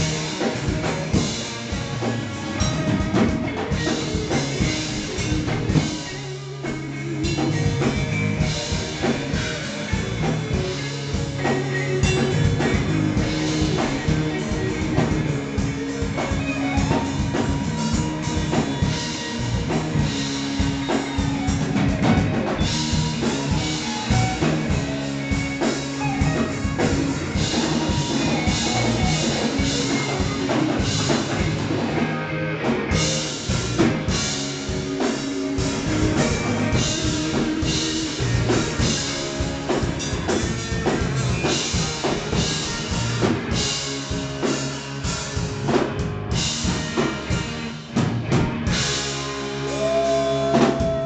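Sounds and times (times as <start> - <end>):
live rock band playing: 0.0 - 51.0.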